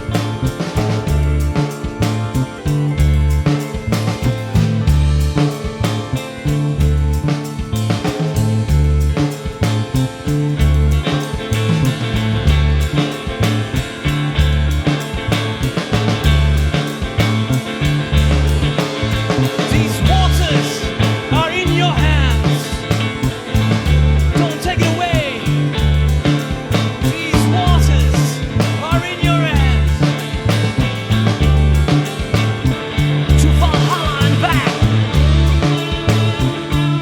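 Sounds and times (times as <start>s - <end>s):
busy drums: 0.0s - 37.0s
lead guitar bending notes: 0.0s - 37.0s
repeating bass line: 0.0s - 37.0s.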